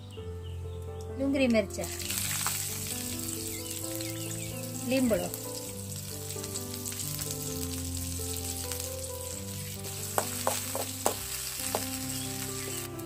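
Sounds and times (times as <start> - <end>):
soft background music: 0.0 - 13.0
onions sizzling in hot oil: 1.8 - 13.0.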